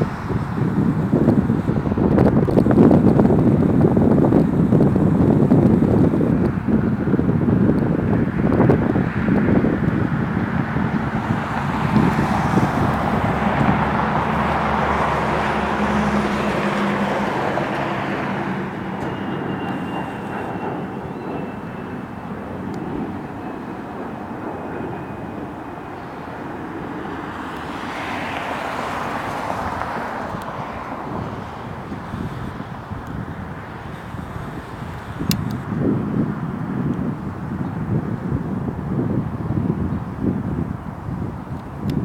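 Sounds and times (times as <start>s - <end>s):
falling jet whine: 0.0s - 36.5s
jet engines roaring overhead: 0.0s - 42.0s.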